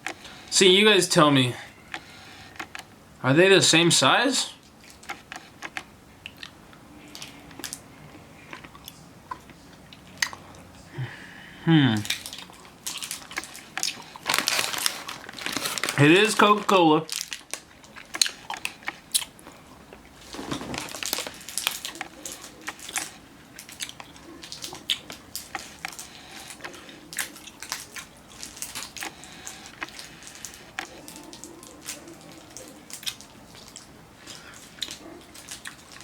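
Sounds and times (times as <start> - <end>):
person chewing candy: 4.7 - 11.1, 11.8 - 36.0.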